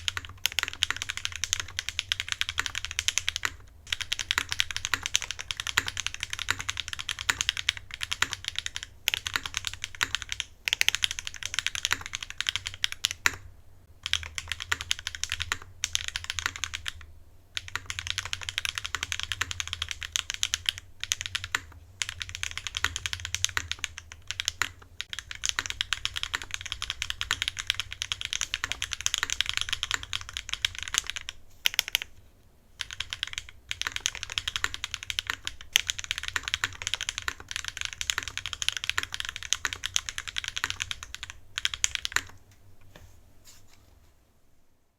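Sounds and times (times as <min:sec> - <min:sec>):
mechanical keyboard typing: 0:00.0 - 0:32.2, 0:32.8 - 0:42.4.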